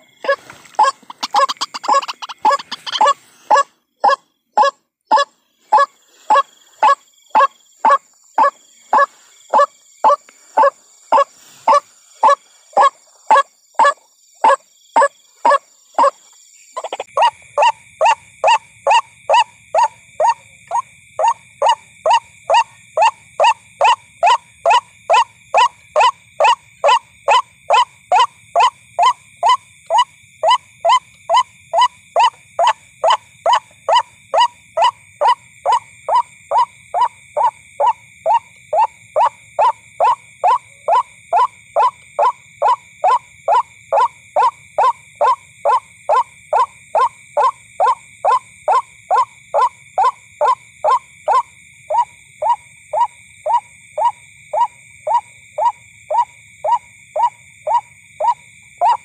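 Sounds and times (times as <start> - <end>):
waterhen call: 0.0 - 16.2, 16.8 - 59.0.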